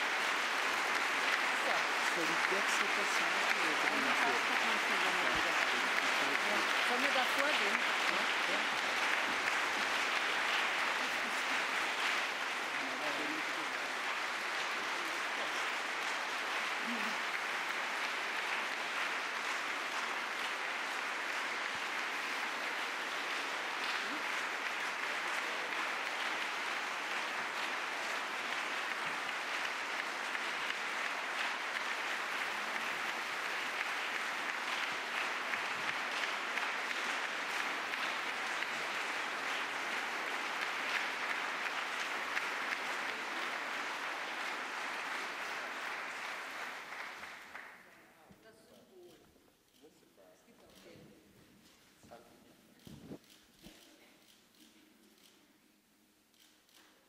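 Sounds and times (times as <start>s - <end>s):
audience applauding: 0.0s - 48.1s.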